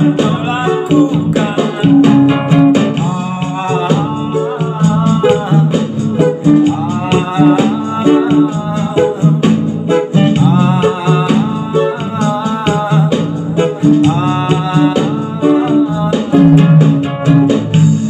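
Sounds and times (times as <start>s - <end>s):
man singing: 0.0s - 17.6s
acoustic guitar strumming: 0.0s - 18.0s.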